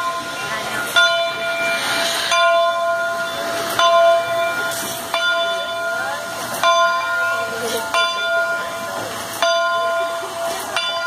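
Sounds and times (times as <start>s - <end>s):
steam hissing: 0.0s - 11.0s
steam locomotive bell ringing: 0.0s - 11.0s.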